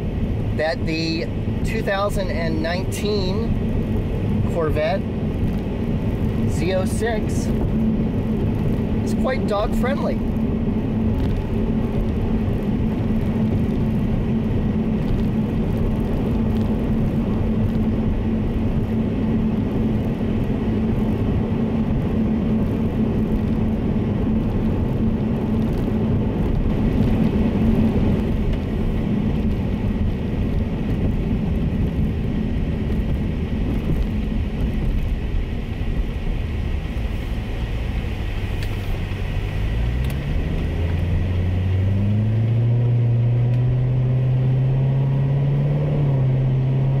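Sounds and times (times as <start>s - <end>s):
car engine revving: 0.0s - 47.0s
road noise: 0.0s - 47.0s.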